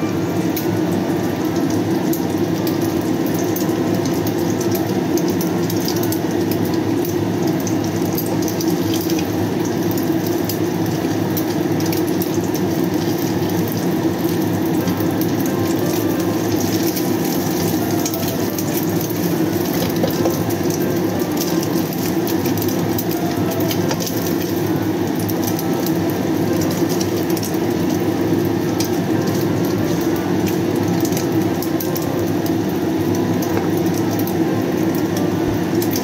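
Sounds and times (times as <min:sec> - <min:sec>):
egg sizzling in oil: 0:00.0 - 0:36.0.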